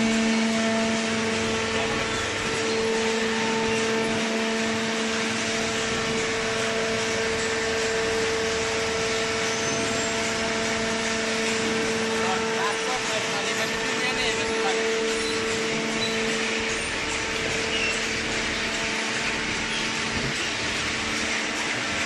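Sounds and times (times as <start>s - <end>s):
baler machine hum: 0.0s - 22.0s.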